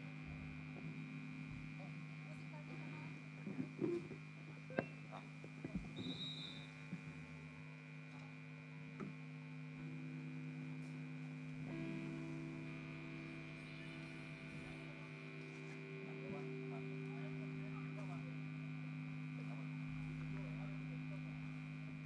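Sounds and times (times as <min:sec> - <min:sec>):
electrical hum from amplifiers: 0:00.0 - 0:22.0
higher-pitched hum: 0:00.0 - 0:22.0.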